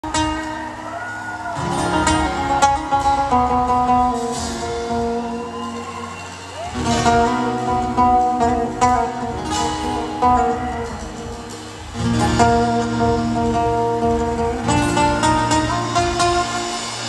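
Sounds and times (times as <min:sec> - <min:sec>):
electric guitar: 0:00.0 - 0:17.0
live pop-rock band: 0:00.0 - 0:17.0.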